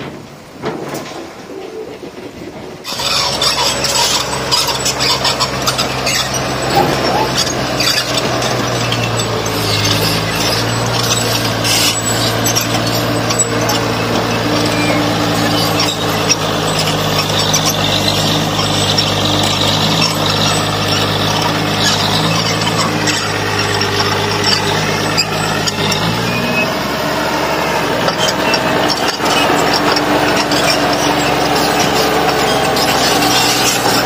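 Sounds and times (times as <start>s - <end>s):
diesel engine of heavy machinery: 0.0s - 34.0s
knocks and scraping: 0.0s - 34.0s.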